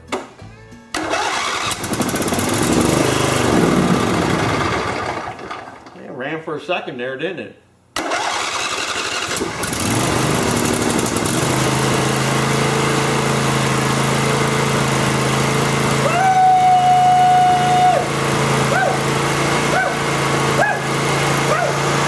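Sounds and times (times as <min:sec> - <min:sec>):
engine starting and running: 0:00.9 - 0:06.0, 0:08.0 - 0:22.0.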